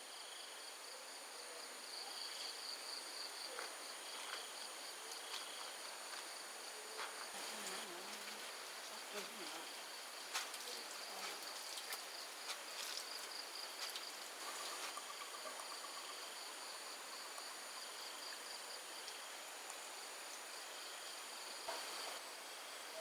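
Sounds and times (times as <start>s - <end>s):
insects chirring: 1.9s - 23.0s.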